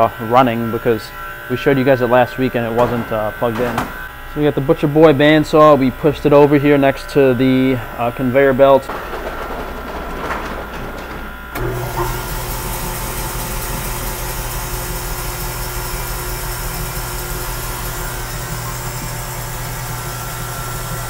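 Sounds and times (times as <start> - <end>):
bandsaw running: 0.0 - 21.0.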